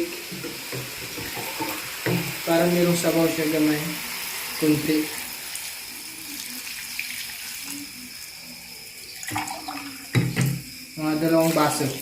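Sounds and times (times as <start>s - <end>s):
water pouring into a pan: 0.0s - 12.0s.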